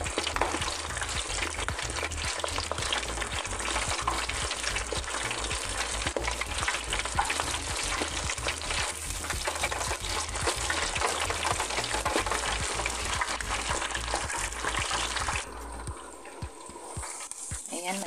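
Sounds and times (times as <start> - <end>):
deep-frying sizzle: 0.0 - 18.0.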